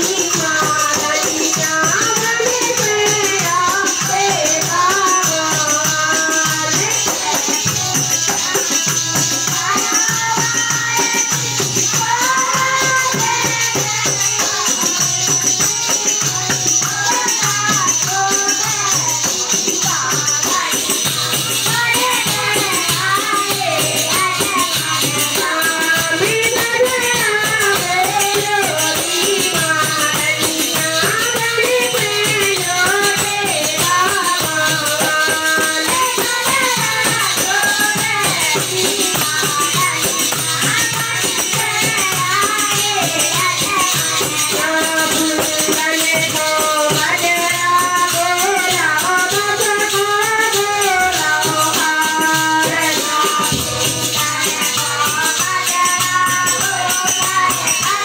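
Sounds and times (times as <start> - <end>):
hand cymbals jingling: 0.0 - 58.0
harmonium: 0.0 - 58.0.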